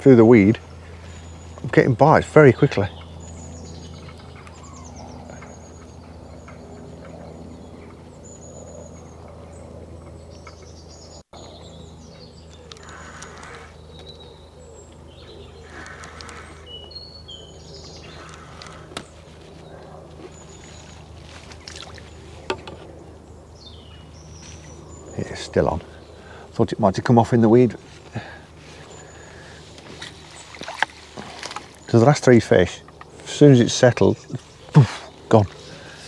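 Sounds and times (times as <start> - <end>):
low steady hum: 0.0 - 36.0
small birds chirping: 0.0 - 36.0.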